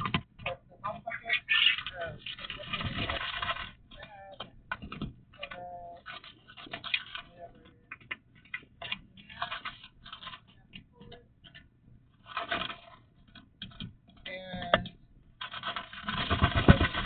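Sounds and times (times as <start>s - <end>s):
rustling and clicking: 0.0s - 17.0s.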